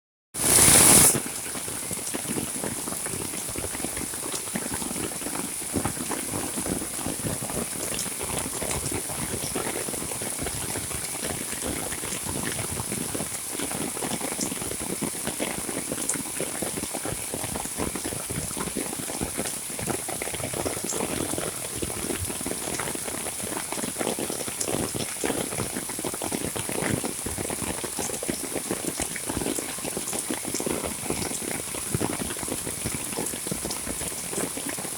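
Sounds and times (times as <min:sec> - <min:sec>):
heavy rain falling: 0:00.4 - 0:34.9.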